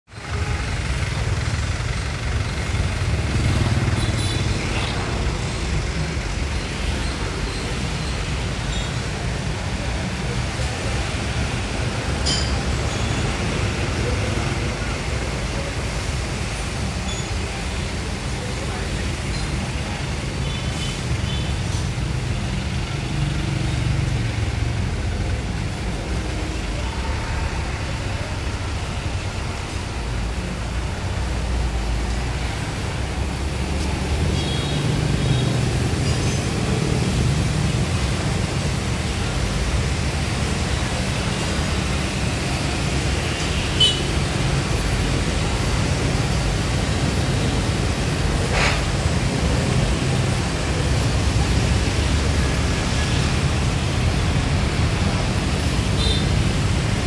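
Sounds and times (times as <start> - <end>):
street traffic: 0.0 - 57.0
motorbike engines rumbling: 0.1 - 57.0.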